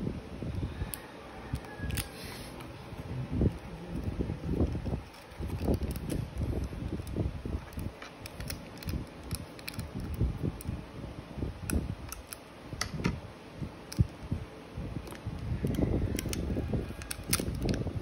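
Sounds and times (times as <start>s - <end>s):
low rumbling handling noise: 1.5s - 18.0s.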